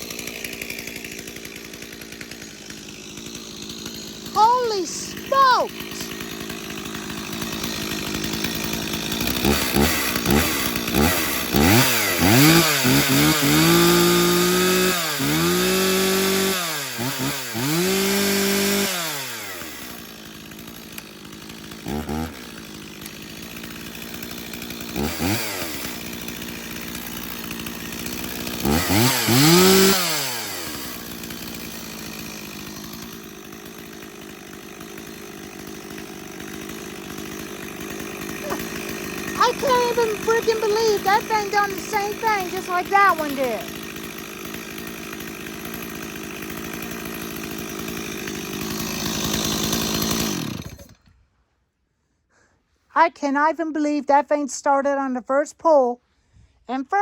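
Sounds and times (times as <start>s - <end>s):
chainsaw revving and idling: 0.0s - 51.2s, 56.7s - 57.0s.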